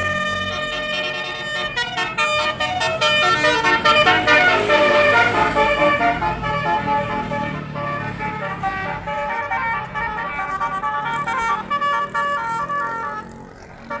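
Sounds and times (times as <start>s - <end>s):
low engine rumble: 0.0s - 14.0s
multi-tone bus air horn melody: 0.0s - 14.0s.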